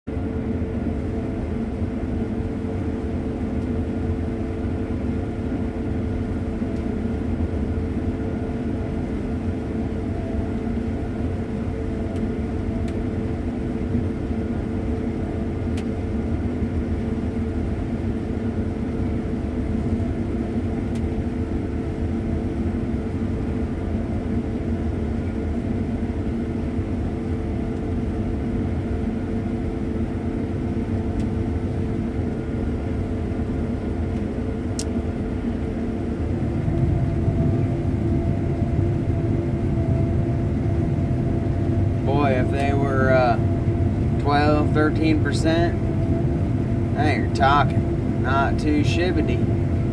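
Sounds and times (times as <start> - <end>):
combine harvester drone: 0.1 - 49.9.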